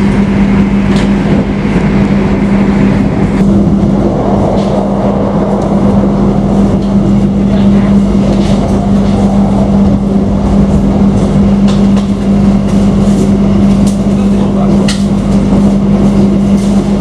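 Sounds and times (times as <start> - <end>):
constant low hum: 0.0 - 17.0
train wheels rumbling on track: 0.0 - 17.0.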